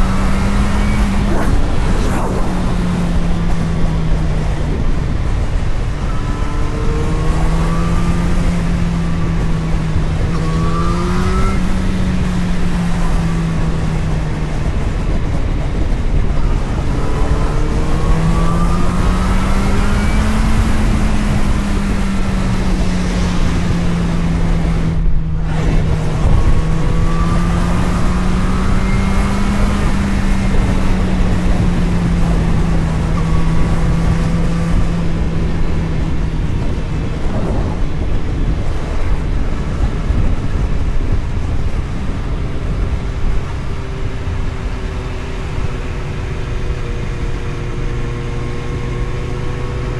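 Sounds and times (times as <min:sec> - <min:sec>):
heavy wind: 0:00.0 - 0:49.9
road rumble: 0:00.0 - 0:49.9.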